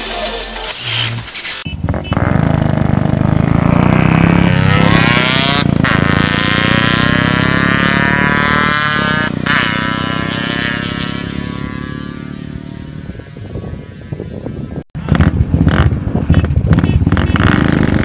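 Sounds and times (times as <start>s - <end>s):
motorcycles accelerating hard: 1.8s - 18.0s.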